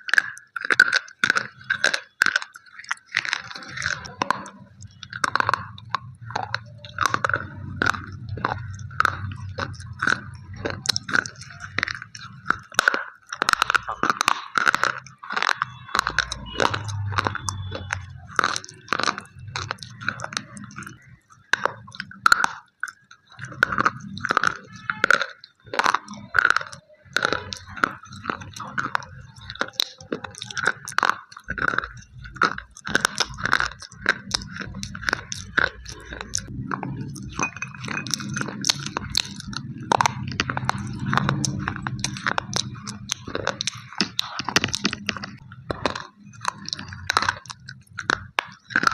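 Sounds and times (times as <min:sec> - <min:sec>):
crunching of chewed slate pencils: 0:00.0 - 0:48.9.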